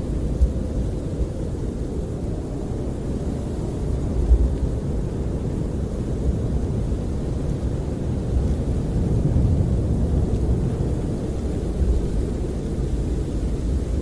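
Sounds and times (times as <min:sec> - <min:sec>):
wind buffeting a camper: 0:00.0 - 0:14.0.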